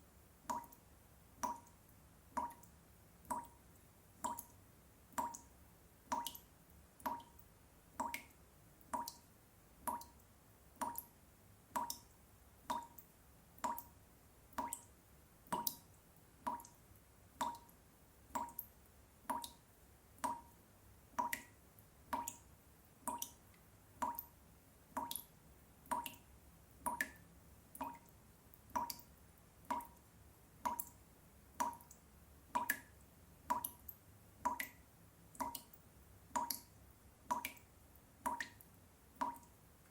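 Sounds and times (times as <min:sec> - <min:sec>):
water dripping from tap: 0:00.4 - 0:39.9.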